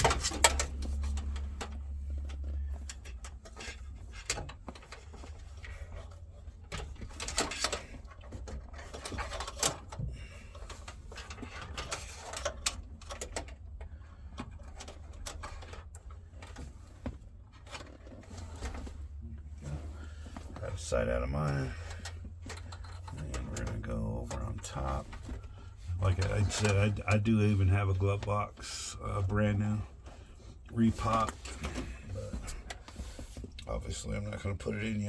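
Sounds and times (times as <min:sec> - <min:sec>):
wire rustling and scraping: 0:00.0 - 0:33.7
steady low hum: 0:00.0 - 0:35.0.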